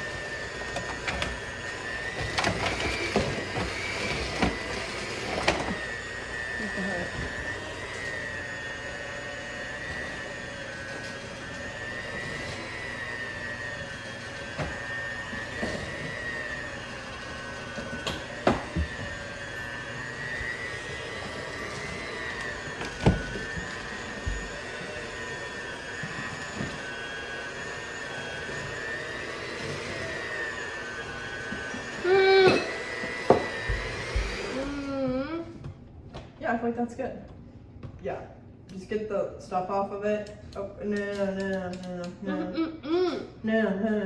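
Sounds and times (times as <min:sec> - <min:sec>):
electric hand mixer whine: 0:00.0 - 0:35.6.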